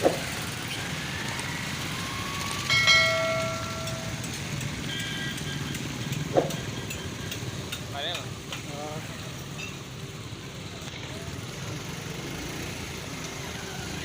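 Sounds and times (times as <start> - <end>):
traffic on wet road: 0.0 - 14.0.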